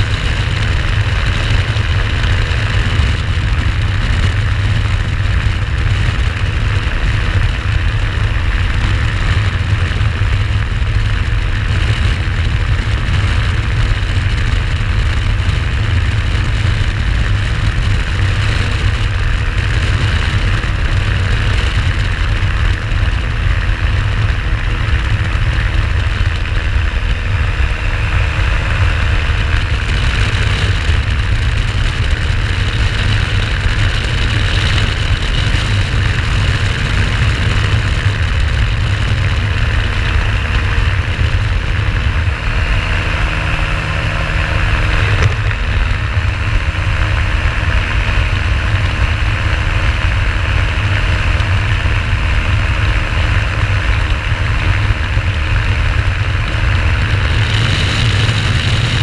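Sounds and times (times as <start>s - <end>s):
engine and propeller drone: 0.0s - 59.0s
wind rumble on microphone: 0.0s - 59.0s.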